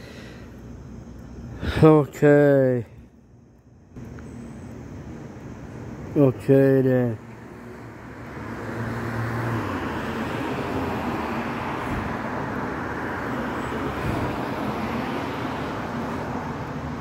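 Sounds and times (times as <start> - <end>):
vehicle tyre and engine noise: 0.0 - 17.0.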